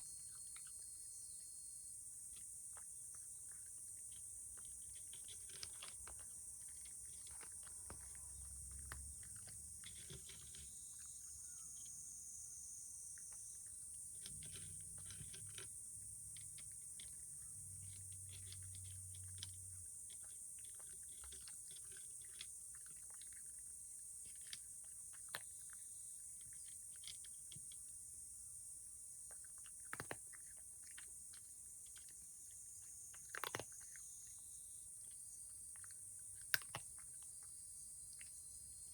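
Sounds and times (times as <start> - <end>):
cat chewing food: 2.2 - 11.6, 13.1 - 28.1, 29.0 - 38.4.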